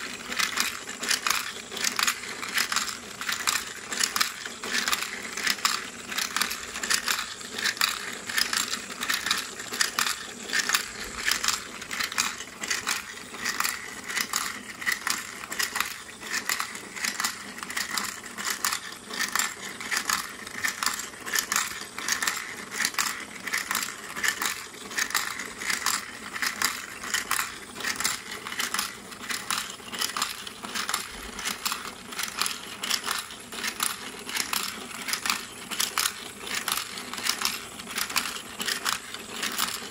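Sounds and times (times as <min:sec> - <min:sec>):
glass marbles clicking and rolling: 0:00.0 - 0:39.9
small gear motor hum: 0:00.0 - 0:39.9.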